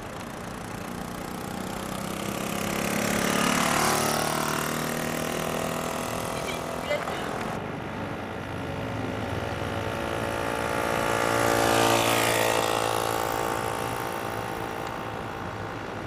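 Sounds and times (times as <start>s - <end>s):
small two-stroke engine running: 0.0s - 16.0s.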